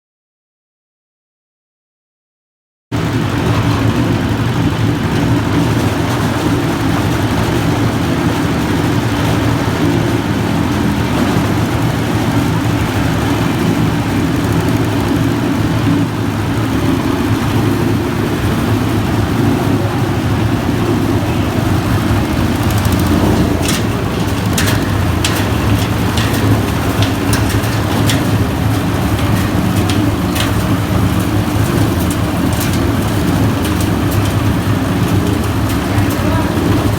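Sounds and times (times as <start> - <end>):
diesel engine running: 2.9 - 36.9.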